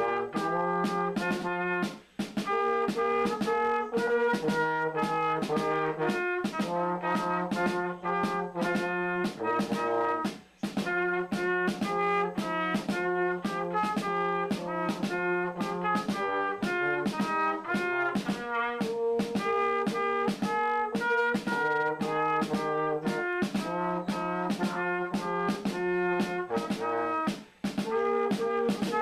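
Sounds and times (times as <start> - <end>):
brass instruments playing: 0.0 - 29.0.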